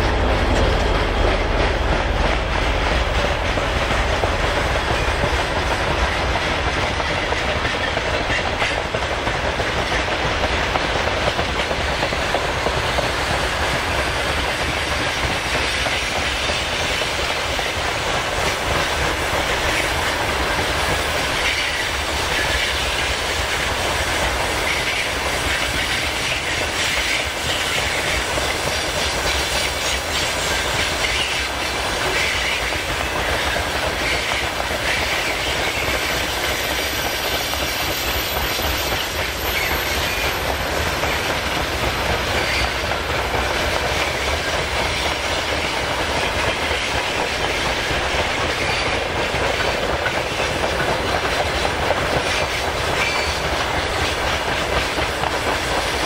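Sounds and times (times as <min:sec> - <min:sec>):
freight train wheels rumbling: 0:00.0 - 0:56.0
train wheels clickety-clack: 0:00.0 - 0:56.0.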